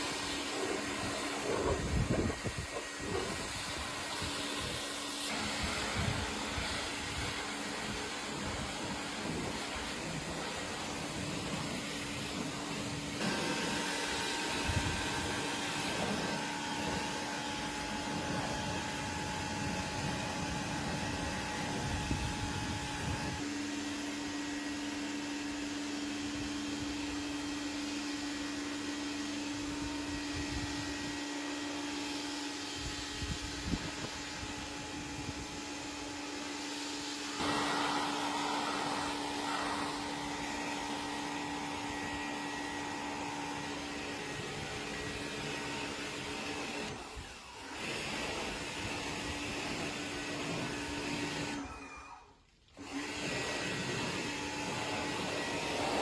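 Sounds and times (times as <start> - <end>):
electric blower motor whining: 0.0 - 56.0.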